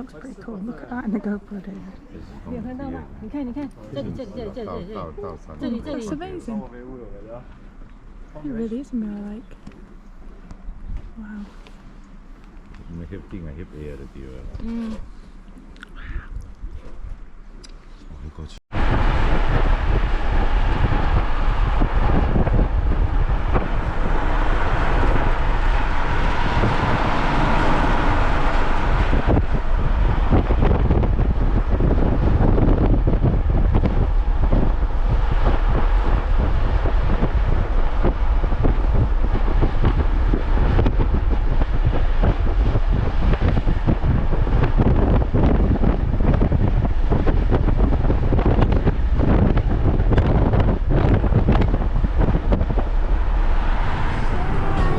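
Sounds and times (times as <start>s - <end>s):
wind buffeting microphone: 0.0s - 15.3s, 18.7s - 54.9s.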